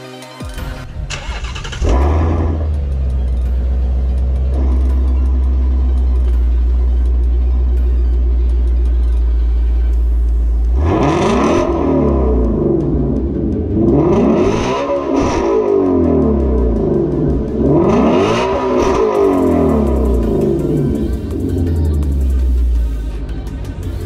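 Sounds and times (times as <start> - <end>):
car engine idling and revving: 0.4 - 24.0.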